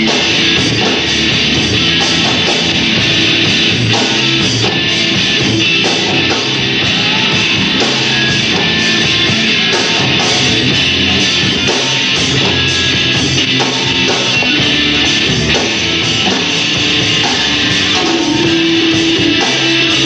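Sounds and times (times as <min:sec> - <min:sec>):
live rock band: 0:00.0 - 0:20.0
loud electric guitars: 0:00.0 - 0:20.0.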